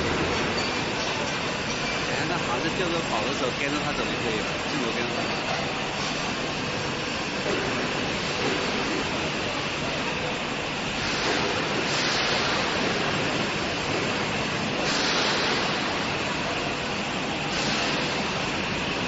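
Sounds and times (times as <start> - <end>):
rushing industrial noise: 0.0 - 19.0.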